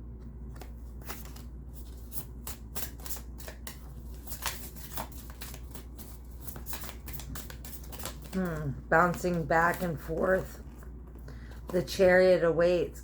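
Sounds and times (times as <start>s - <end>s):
cards being shuffled: 0.1s - 12.0s.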